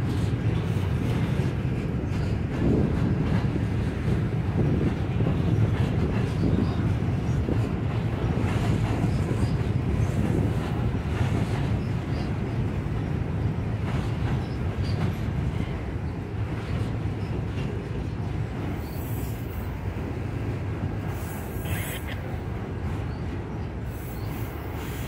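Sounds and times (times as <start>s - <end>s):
freight train rumbling over bridge: 0.0s - 25.0s
train cars clanking: 0.0s - 25.0s.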